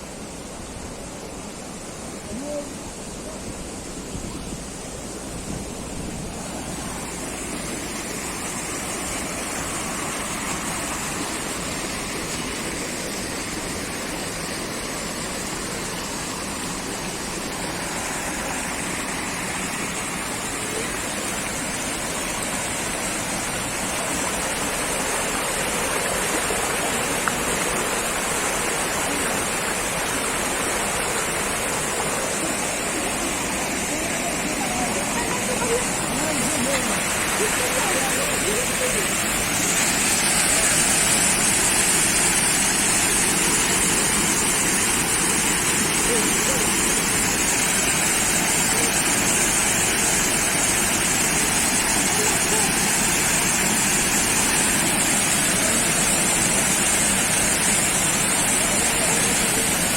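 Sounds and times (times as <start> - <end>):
spring water cascading: 0.0 - 59.9.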